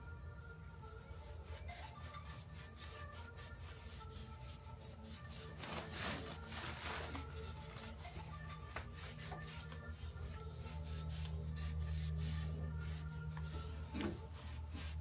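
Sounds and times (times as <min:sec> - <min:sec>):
low steady hum: 0:00.0 - 0:15.0
hand rubbing on a surface: 0:00.8 - 0:15.0.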